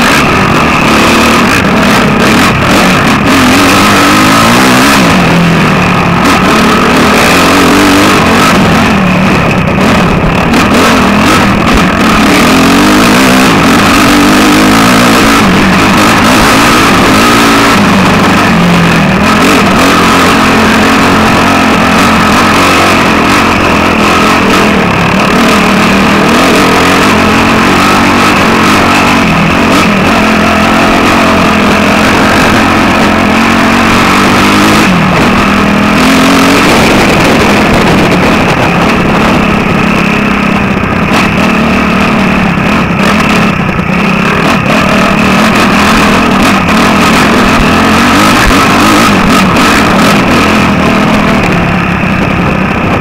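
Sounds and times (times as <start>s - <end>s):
constant rushing noise: 0.0s - 53.0s
dirt bike engine revving: 0.0s - 53.0s.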